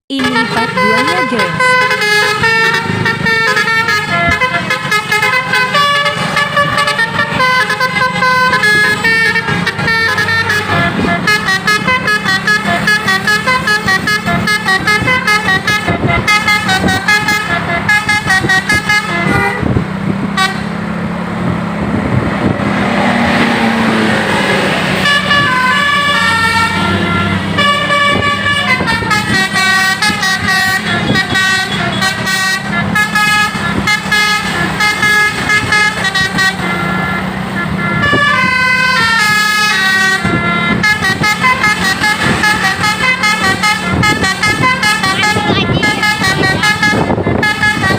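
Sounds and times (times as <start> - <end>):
bus musical horn playing tunes: 0.1 - 21.1, 21.9 - 47.9.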